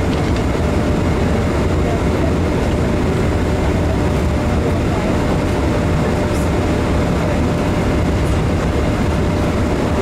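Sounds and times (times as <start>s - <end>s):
airliner cabin roar: 0.0s - 10.0s.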